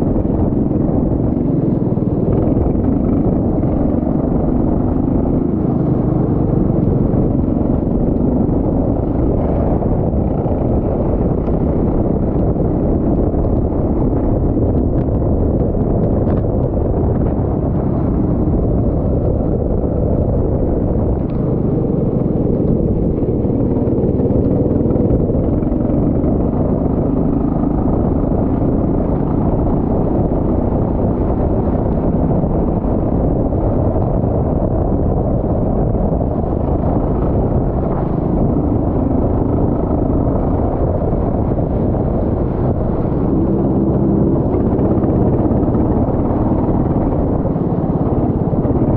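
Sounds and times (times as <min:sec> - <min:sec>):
racing kart engine running: 0:00.0 - 0:48.9.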